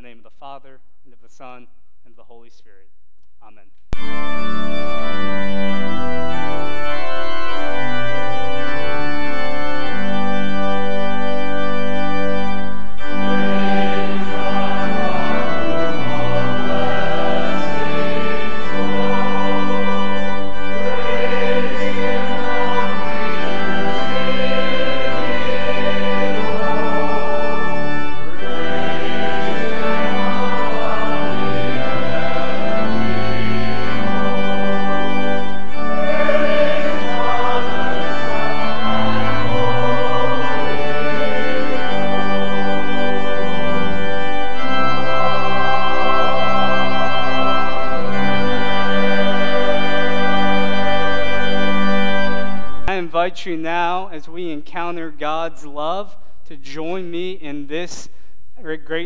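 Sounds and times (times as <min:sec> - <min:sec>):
church choir singing: 0:04.0 - 0:52.9
organ playing held chords: 0:04.0 - 0:58.0.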